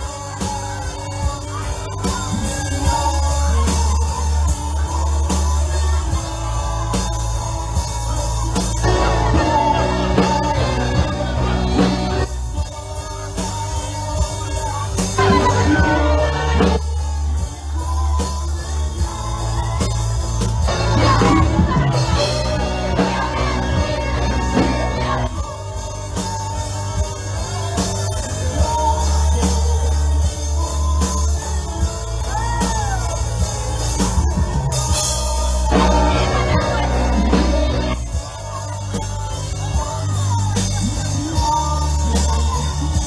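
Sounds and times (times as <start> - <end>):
voices singing: 0.0 - 43.0.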